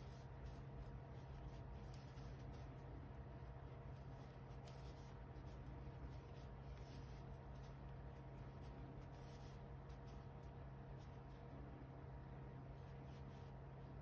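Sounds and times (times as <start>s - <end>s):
crochet hook rustling yarn: 0.0s - 11.4s.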